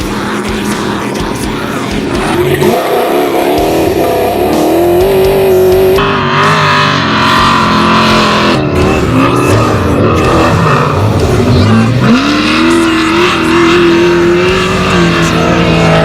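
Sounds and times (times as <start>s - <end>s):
race vehicle engine running: 0.0s - 16.0s
rock music with electric guitar: 0.0s - 16.0s.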